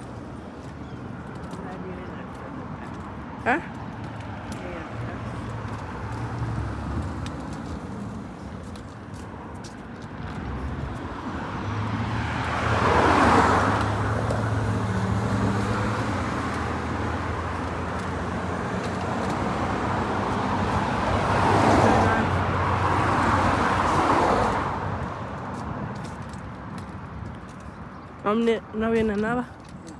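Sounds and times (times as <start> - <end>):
vehicles passing: 0.0 - 29.9.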